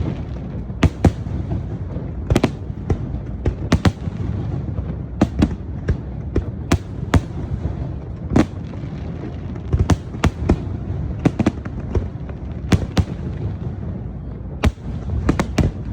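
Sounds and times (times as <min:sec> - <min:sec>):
fireworks bangs and crackles: 0:00.0 - 0:15.9
low rumble of bursts: 0:00.0 - 0:15.9.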